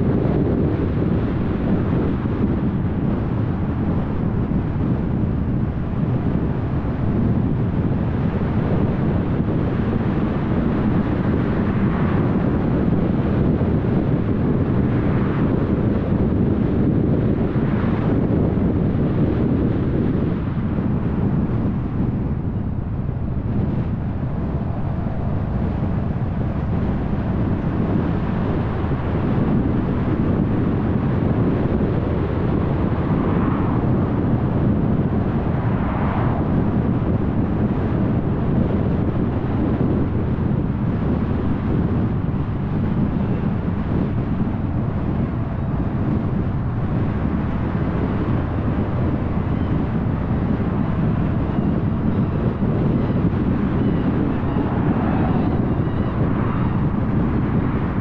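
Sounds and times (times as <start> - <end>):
car tyre and road noise: 0.0 - 58.0
wind on microphone: 0.0 - 58.0.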